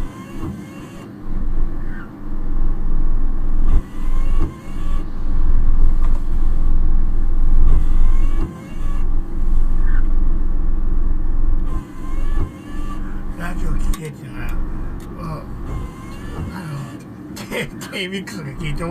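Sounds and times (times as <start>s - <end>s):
road and engine rumble in car: 0.0s - 18.9s.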